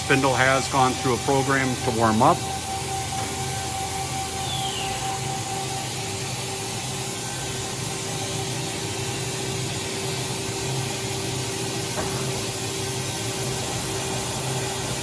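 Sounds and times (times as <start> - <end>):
machine spindle humming: 0.0 - 15.0.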